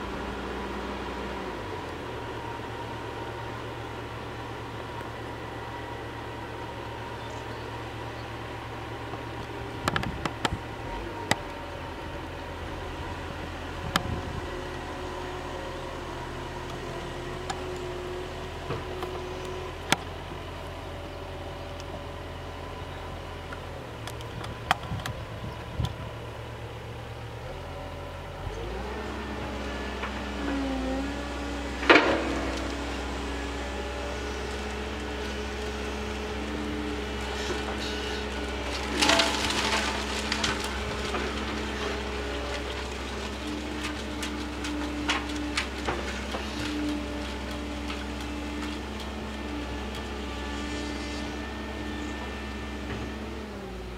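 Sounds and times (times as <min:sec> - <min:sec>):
excavator mulcher engine drone: 0:00.0 - 0:53.9.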